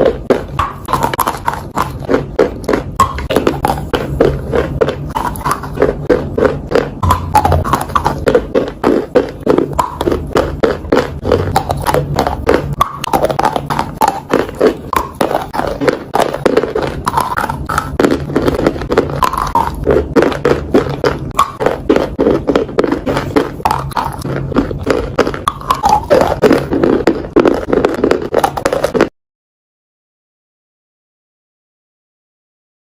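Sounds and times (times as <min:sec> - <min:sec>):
crunchy food being chewed: 0:00.0 - 0:29.1
low hum: 0:00.0 - 0:29.1.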